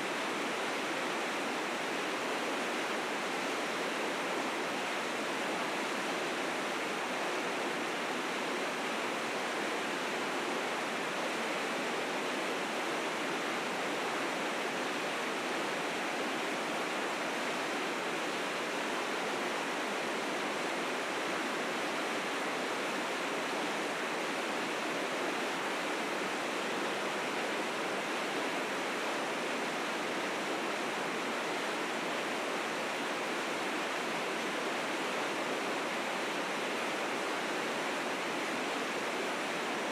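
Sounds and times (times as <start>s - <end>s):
river rapids rushing: 0.0s - 39.9s.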